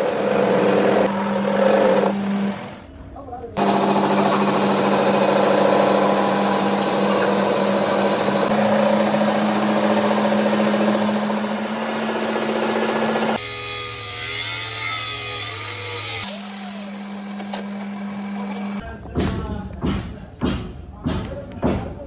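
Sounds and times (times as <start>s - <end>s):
power tool whining on steel: 0.0s - 2.8s, 3.6s - 18.8s.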